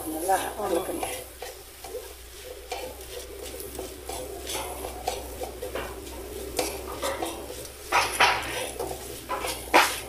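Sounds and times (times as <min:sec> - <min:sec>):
light frying sizzle: 0:00.0 - 0:10.0
spatula scraping metal pan: 0:00.0 - 0:10.0.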